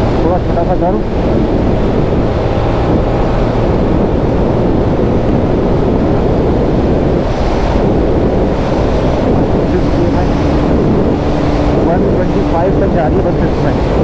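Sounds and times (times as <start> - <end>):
motorcycle engine cruising: 0.0 - 14.0
wind buffeting microphone: 0.0 - 14.0.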